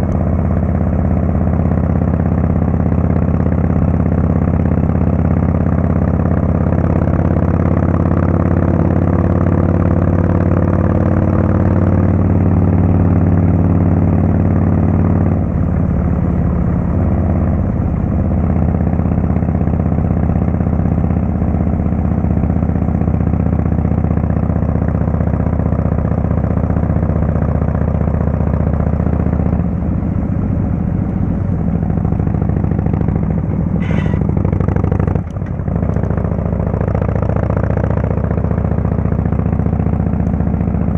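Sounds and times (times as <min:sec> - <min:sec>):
motorcycle v-twin engine running: 0:00.0 - 0:40.9.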